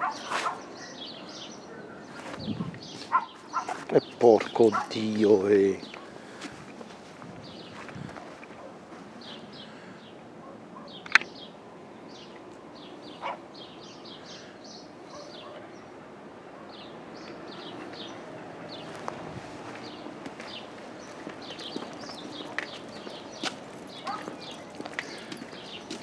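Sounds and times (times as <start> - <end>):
faint background noise: 0.0 - 26.0
small birds chirping: 0.0 - 26.0.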